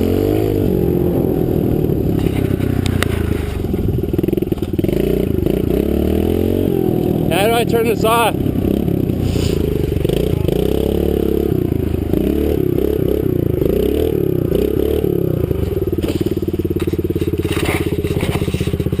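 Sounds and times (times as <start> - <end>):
small motorbike engine running: 0.0 - 19.0.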